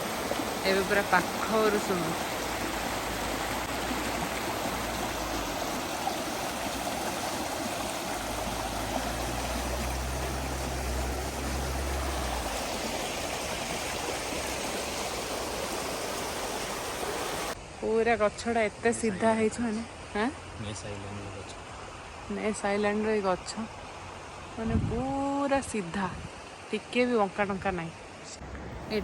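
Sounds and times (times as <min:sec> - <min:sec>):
rushing river water: 0:00.0 - 0:17.8, 0:18.9 - 0:29.0.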